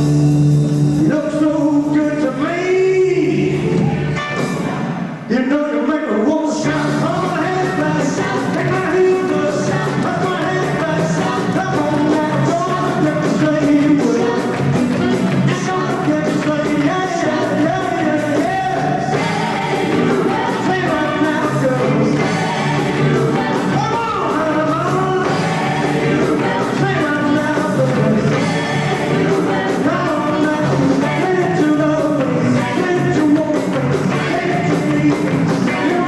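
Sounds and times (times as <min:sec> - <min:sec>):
rock and roll band playing: 0:00.0 - 0:36.0
lead vocal singing: 0:01.0 - 0:04.0, 0:05.2 - 0:36.0
steady drum beat: 0:06.6 - 0:36.0.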